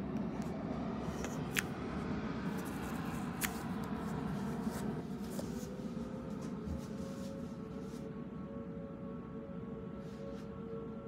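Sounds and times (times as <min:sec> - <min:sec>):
faint warning siren: 0:00.0 - 0:11.0
steady low hum: 0:00.0 - 0:11.0.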